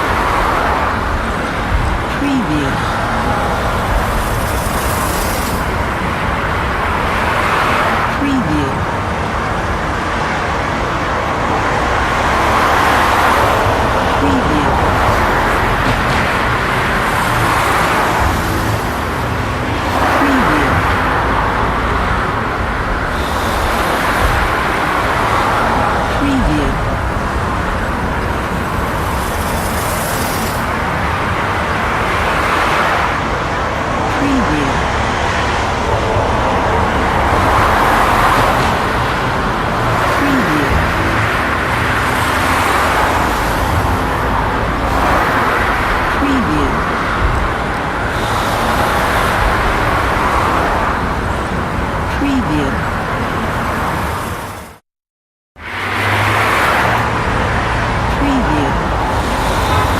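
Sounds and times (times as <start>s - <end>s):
cars and trucks passing: 0.0s - 54.8s, 55.6s - 59.9s
road traffic: 0.0s - 54.8s, 55.6s - 59.9s.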